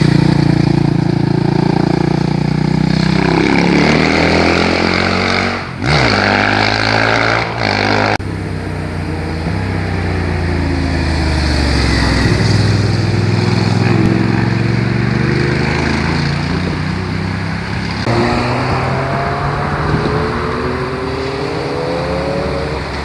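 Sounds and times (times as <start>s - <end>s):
motorcycle engines passing: 0.0s - 23.0s.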